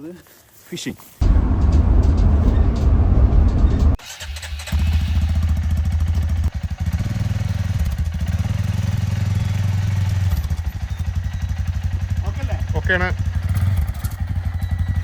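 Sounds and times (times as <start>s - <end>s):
small vehicle engine running: 1.2s - 15.0s.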